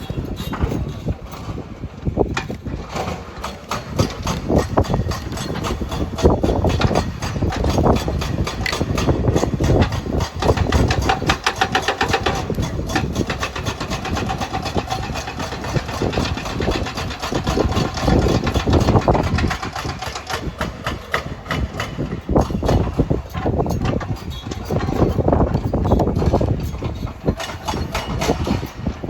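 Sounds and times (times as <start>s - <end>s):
heavy machine engine running: 0.0s - 29.0s
rapid regular clatter and knocks: 0.0s - 29.0s.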